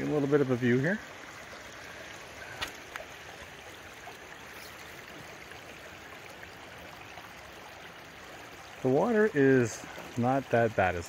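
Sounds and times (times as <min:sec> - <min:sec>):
creek trickling over stones: 0:00.0 - 0:11.0.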